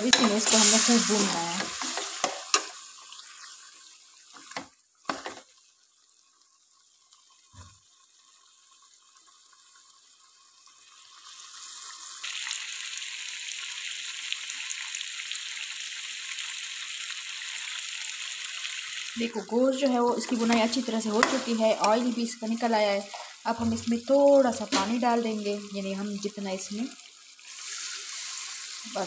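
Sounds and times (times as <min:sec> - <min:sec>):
meat and spices sizzling: 0:00.0 - 0:29.0.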